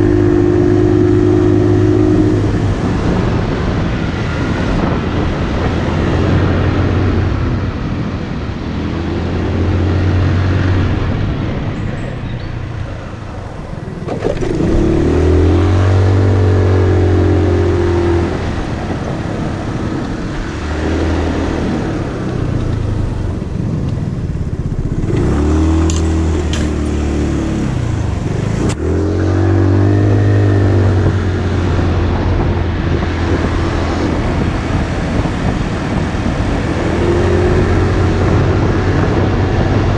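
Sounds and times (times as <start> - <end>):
motorcycle engine revving: 0.0 - 8.0, 13.4 - 39.9
wind and road noise: 0.0 - 39.9.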